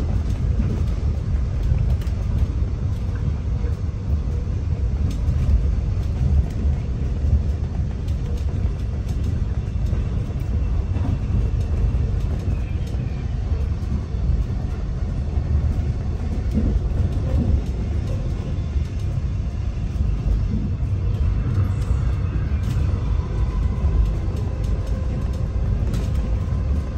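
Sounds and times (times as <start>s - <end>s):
electric train rumbling: 0.0s - 26.9s.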